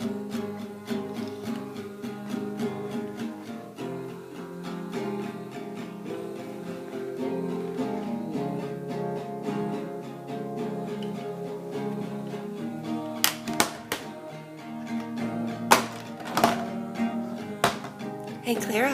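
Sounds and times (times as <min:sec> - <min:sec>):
acoustic guitar music: 0:00.0 - 0:18.9.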